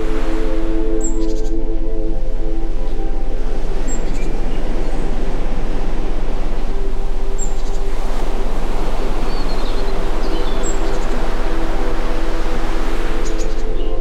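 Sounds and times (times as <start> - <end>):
constant low hum: 0.0 - 14.0
steady rushing noise: 0.0 - 14.0.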